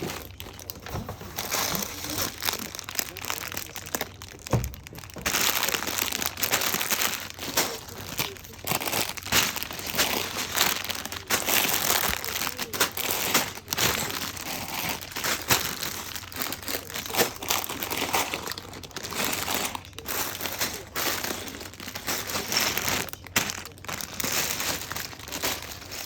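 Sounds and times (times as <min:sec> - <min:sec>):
crinkling rustling handling: 0:00.0 - 0:26.0.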